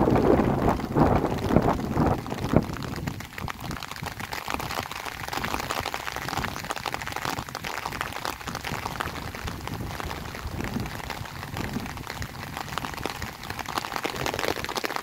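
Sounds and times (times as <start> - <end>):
wind buffeting microphone: 0.0 - 14.7
rain falling steadily: 0.0 - 15.0.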